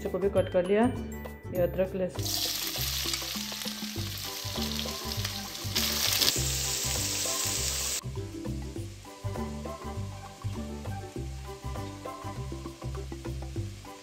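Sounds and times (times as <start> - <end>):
background music with a beat: 2.2 - 14.0
onions sizzling in hot oil: 2.2 - 14.0.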